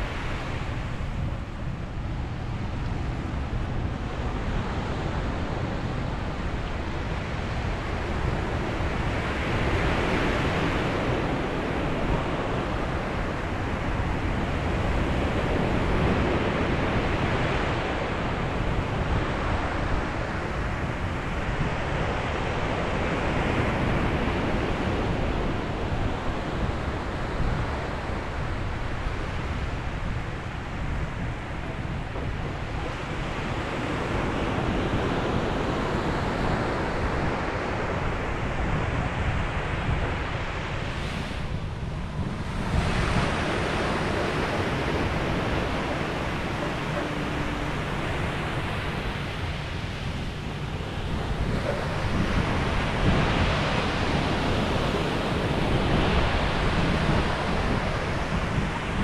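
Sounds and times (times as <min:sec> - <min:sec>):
waves washing onto beach: 0:00.0 - 0:59.0
wind buffeting microphone: 0:00.0 - 0:59.0.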